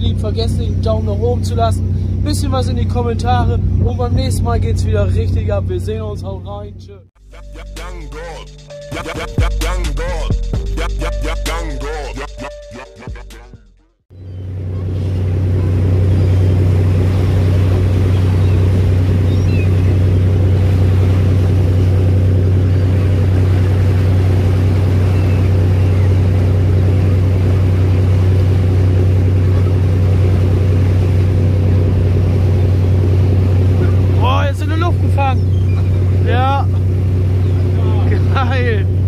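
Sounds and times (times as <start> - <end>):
boat engine droning: 0.0 - 8.9, 14.1 - 39.0.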